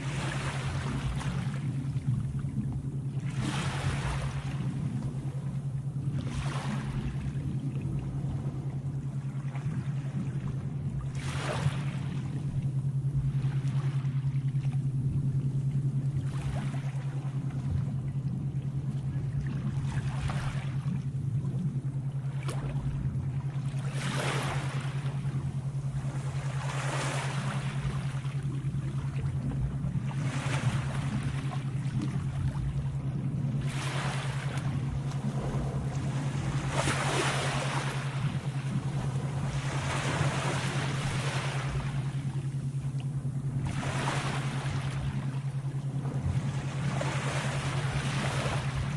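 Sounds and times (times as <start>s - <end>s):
sea waves washing in: 0.0s - 48.9s
steady low hum: 0.0s - 48.9s.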